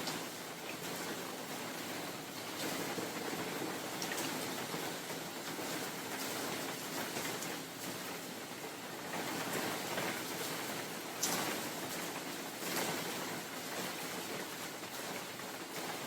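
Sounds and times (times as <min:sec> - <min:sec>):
rain drops ticking: 0:00.0 - 0:16.0
steady rain falling: 0:00.0 - 0:16.0
wind: 0:00.0 - 0:16.0.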